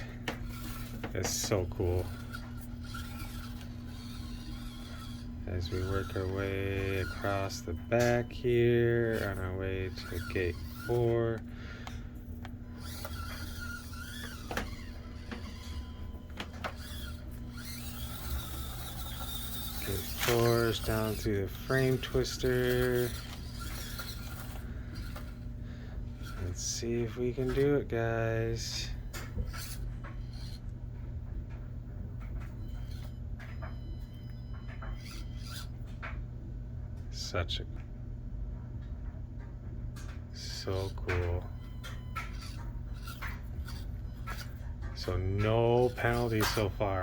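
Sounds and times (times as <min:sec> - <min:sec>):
small electric motor whining: 0:00.0 - 0:36.1, 0:40.4 - 0:47.0.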